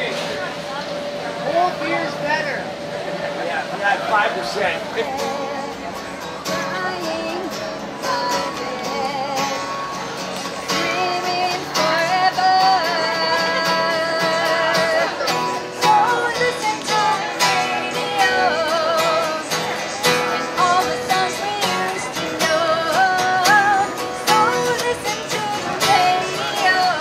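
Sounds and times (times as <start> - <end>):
strummed acoustic guitar: 0.0 - 27.0
woman singing with vibrato: 5.0 - 27.0.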